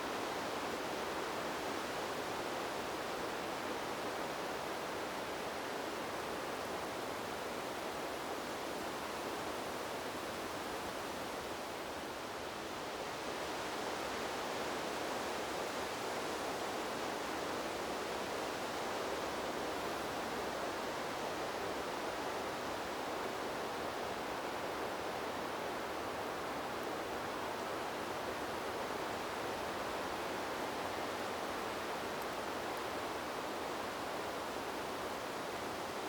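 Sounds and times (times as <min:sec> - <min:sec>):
wind blowing through trees: 0:00.0 - 0:36.0.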